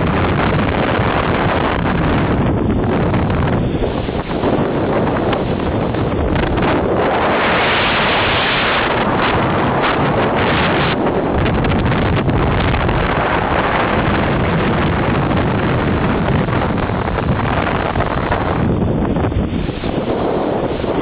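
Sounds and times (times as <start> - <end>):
high wind buffeting microphone: 0.0 - 21.0.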